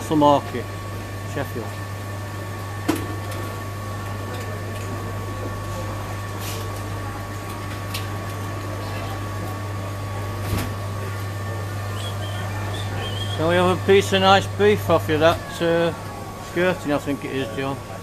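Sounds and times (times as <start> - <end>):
high machinery whine: 0.0 - 18.0
low electrical hum: 0.0 - 18.0.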